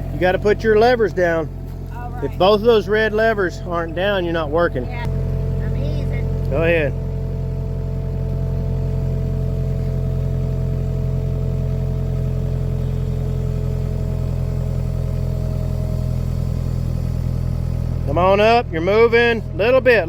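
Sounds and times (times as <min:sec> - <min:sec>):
diesel engine running: 0:00.0 - 0:20.0
steady whine: 0:00.0 - 0:20.0.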